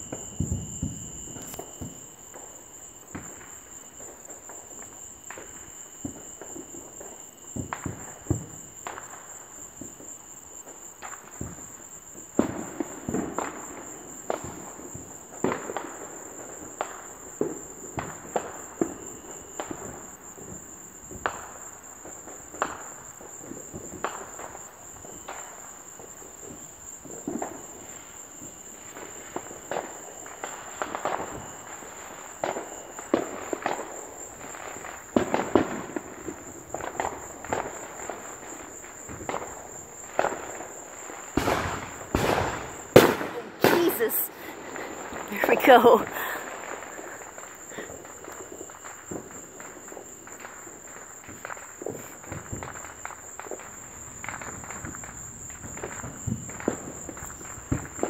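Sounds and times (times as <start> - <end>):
distant fireworks booming: 0.0 - 58.0
insect chorus: 0.0 - 58.0.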